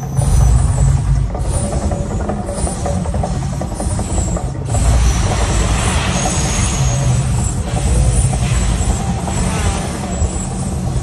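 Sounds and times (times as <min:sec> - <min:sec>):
deep continuous fire rumble: 0:00.0 - 0:11.0.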